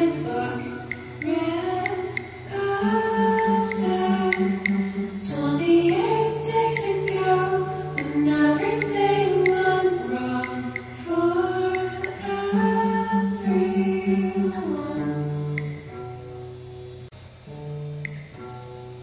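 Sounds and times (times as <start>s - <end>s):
slow voice-like melody: 0.0s - 15.8s.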